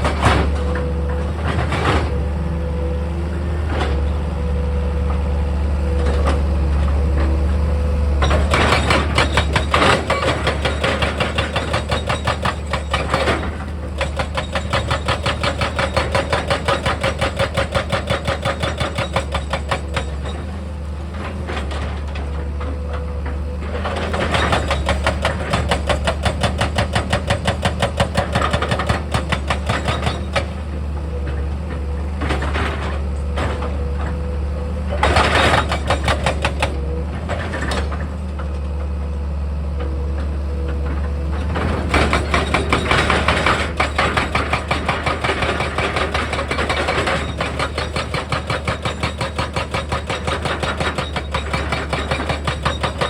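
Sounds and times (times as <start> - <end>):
diesel machinery engine running: 0.0 - 53.0.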